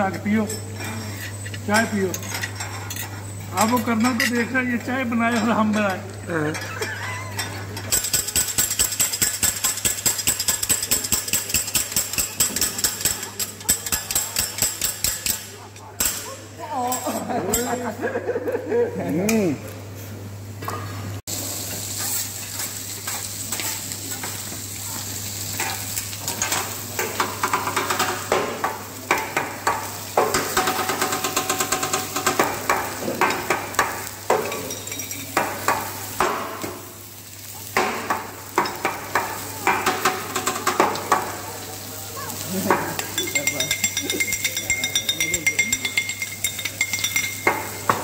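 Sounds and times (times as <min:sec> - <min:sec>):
food sizzling on a griddle: 0:00.0 - 0:18.1, 0:21.3 - 0:48.0.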